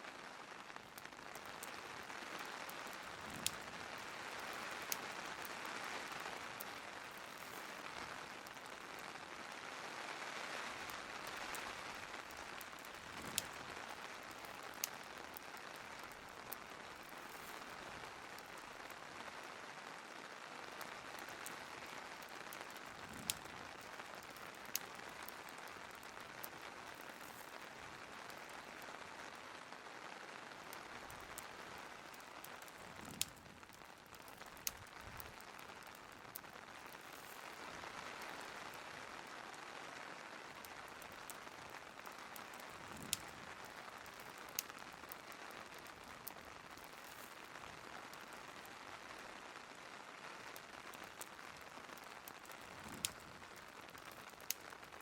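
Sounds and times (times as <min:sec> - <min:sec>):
fireplace crackling and popping: 0:00.0 - 0:55.0
rain hissing: 0:00.0 - 0:55.0.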